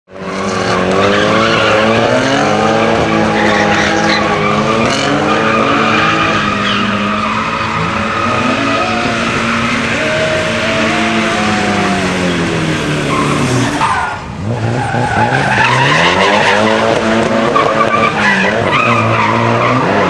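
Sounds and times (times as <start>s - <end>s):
car engine at high revs: 0.1s - 20.0s
tyre squeal: 1.0s - 20.0s.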